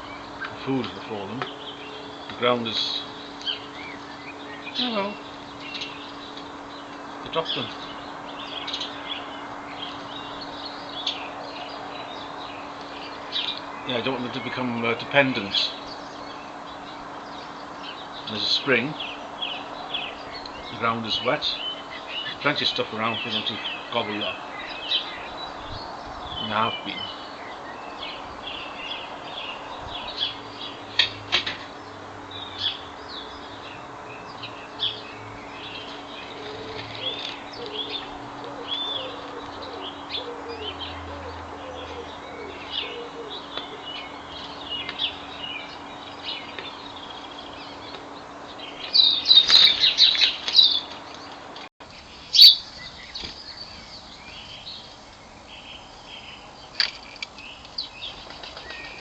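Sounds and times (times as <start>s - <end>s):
small birds chirping and twittering: 0.0s - 59.0s.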